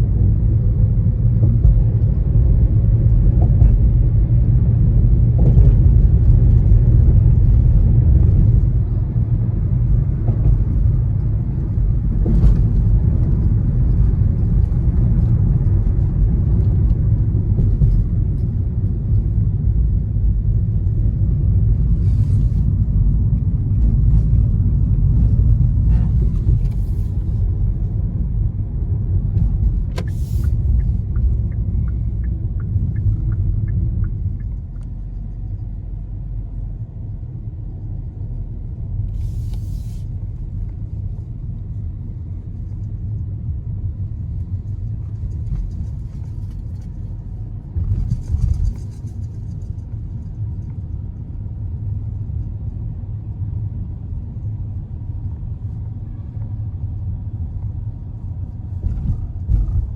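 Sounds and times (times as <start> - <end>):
vehicle rumble: 0.0 - 59.9.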